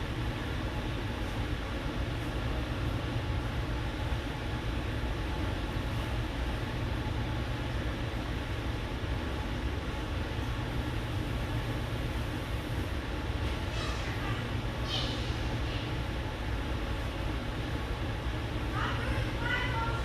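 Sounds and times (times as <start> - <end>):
room noise hiss: 0.0 - 20.0.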